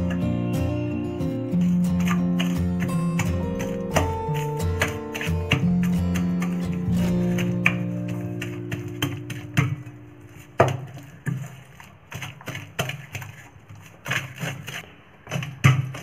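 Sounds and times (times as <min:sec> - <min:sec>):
pestle pounding in steel bowl: 0:00.0 - 0:16.0.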